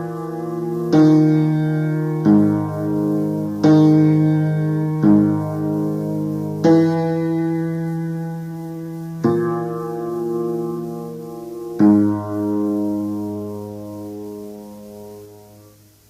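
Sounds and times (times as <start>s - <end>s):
slow sustained keyboard chords: 0.0s - 16.0s.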